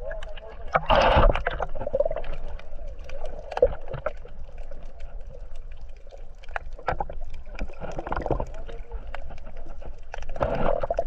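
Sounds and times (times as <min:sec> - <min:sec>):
clicks and crackles: 0:00.0 - 0:11.0
water sloshing: 0:00.0 - 0:11.0.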